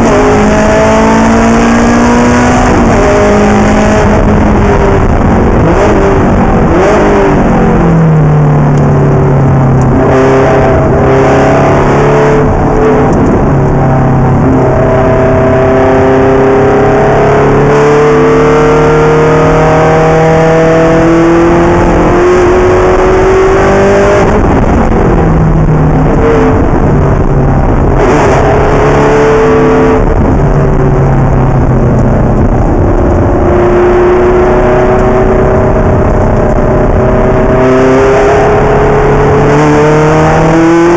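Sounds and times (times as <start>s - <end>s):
race car engine revving: 0.0s - 40.9s
road and wind noise: 0.0s - 40.9s.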